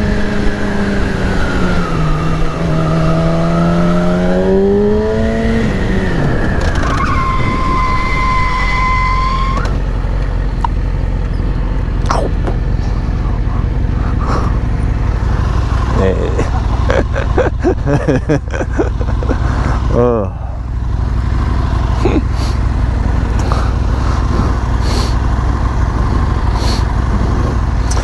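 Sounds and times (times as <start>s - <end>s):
wind rumble: 0.0s - 22.0s, 22.6s - 28.0s
motorcycle engine revving: 0.0s - 28.0s.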